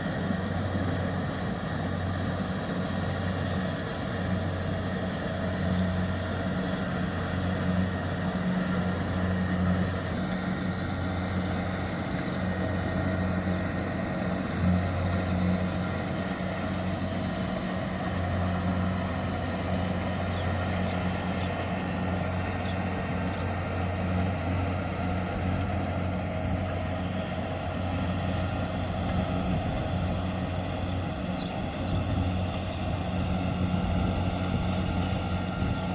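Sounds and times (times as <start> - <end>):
diesel engine droning: 0.0 - 35.9.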